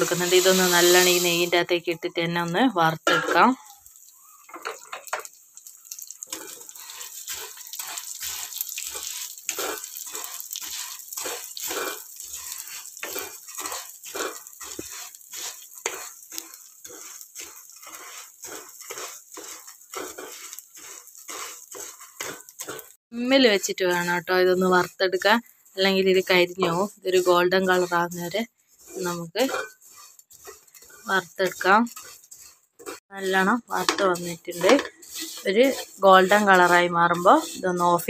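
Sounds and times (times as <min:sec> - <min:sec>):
light sizzle: 0:00.0 - 0:38.0
spatula scraping pan: 0:00.0 - 0:38.0.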